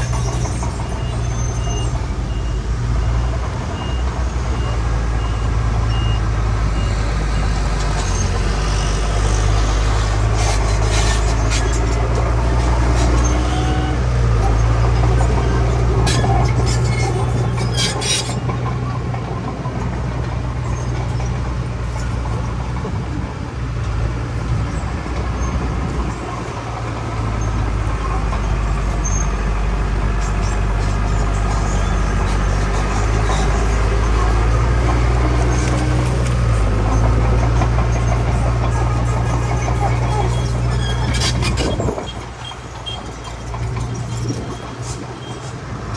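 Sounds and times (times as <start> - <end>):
diesel machinery engine drone: 0.0 - 45.9.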